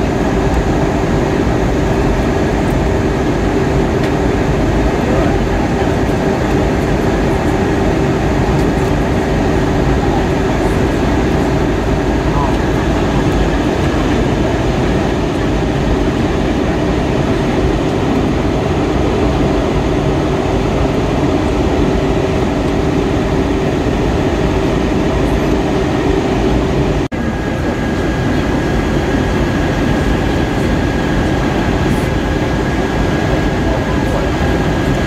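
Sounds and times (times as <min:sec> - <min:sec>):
airplane cabin airflow and engines: 0:00.0 - 0:35.0.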